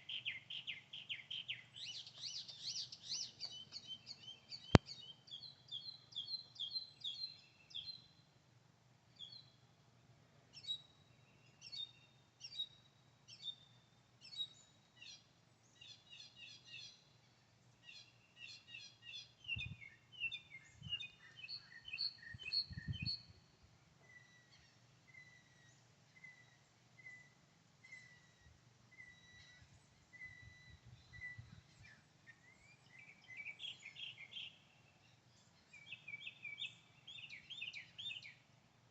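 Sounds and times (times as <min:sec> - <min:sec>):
small birds chirping and singing: 0:00.0 - 0:08.4, 0:09.1 - 0:09.7, 0:10.5 - 0:38.9.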